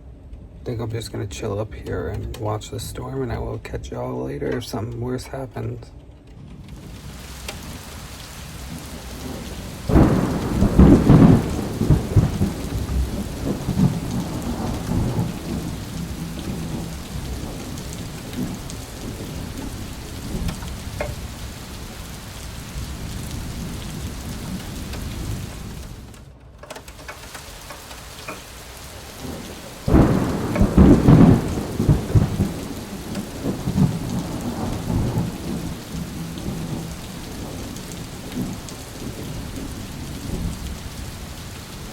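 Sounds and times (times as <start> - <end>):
rain falling steadily: 0.0 - 41.9
thunder rumbling: 6.7 - 41.9.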